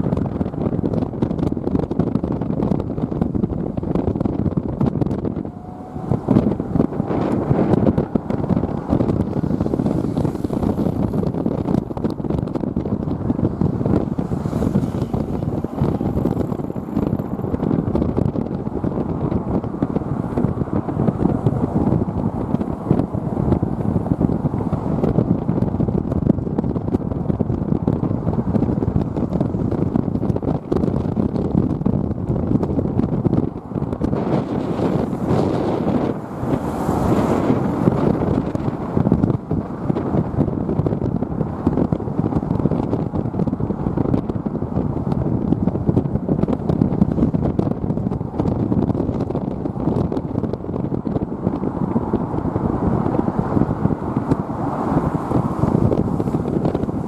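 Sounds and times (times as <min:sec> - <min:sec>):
strong wind buffeting microphone: 0:00.0 - 0:57.0.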